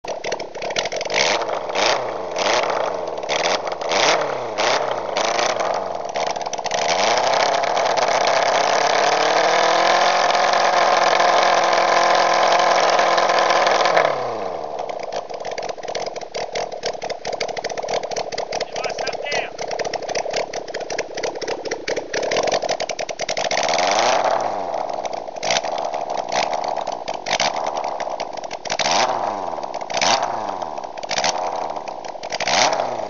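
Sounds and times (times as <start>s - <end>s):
motorcycle engine crackling idle: 0.0s - 33.0s
motorcycle engine revving: 0.0s - 33.0s.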